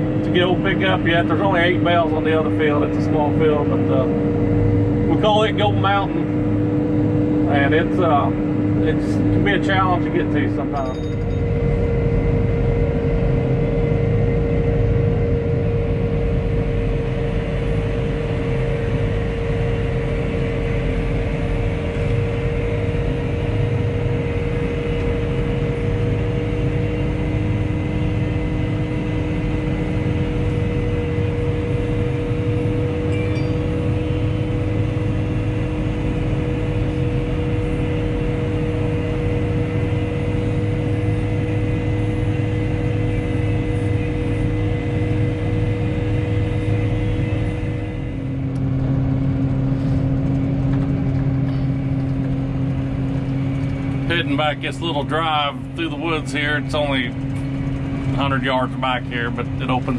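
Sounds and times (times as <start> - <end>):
steady high whine: 0.0 - 59.9
tractor engine rumble: 0.0 - 59.9.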